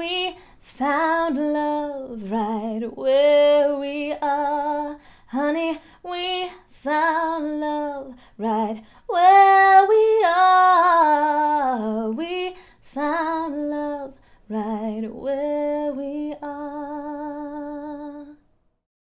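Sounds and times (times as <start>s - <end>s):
woman singing unaccompanied: 0.0s - 18.4s.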